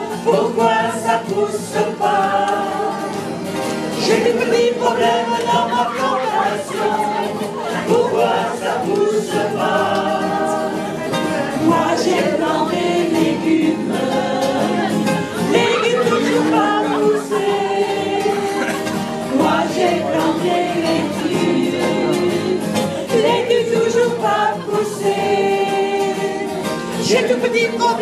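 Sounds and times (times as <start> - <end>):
group singing together: 0.0 - 28.0.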